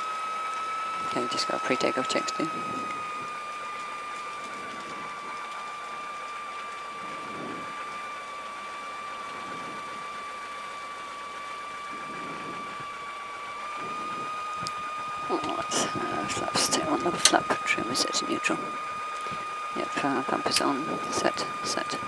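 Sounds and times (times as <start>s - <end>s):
aircraft piston engine idling: 0.0s - 22.0s
constant high whine: 0.0s - 22.0s.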